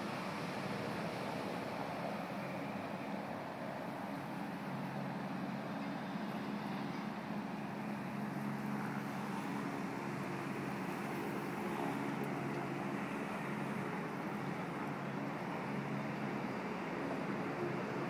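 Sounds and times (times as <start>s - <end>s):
city background noise: 0.0s - 18.0s
low engine hum: 0.0s - 18.0s.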